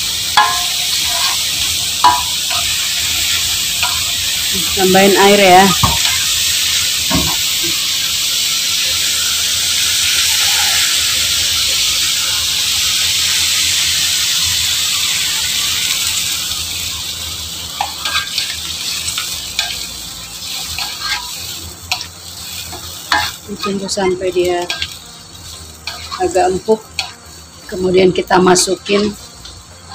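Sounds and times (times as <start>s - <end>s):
spatula scraping and knocking wok: 0.0s - 8.1s, 13.2s - 29.9s
vegetables sizzling in hot oil: 0.0s - 29.9s.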